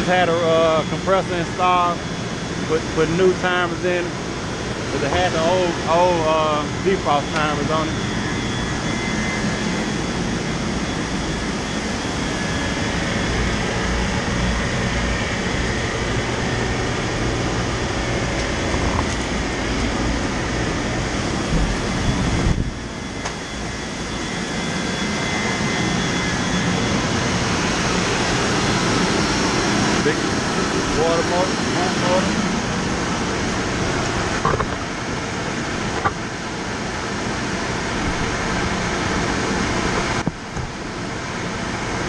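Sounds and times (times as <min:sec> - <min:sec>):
electric pump motor running: 0:00.0 - 0:42.0
refrigeration compressors running: 0:00.0 - 0:42.0
steady hum: 0:00.0 - 0:42.0.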